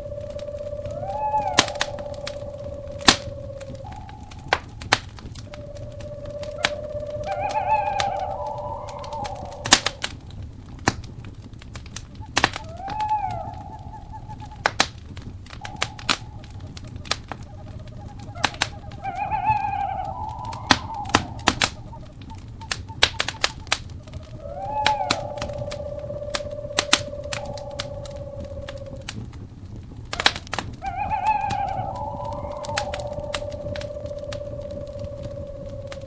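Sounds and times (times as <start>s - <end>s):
owl calling: 0.0s - 10.2s, 12.1s - 29.3s, 30.1s - 36.0s
wood fire crackling and popping: 0.0s - 36.0s.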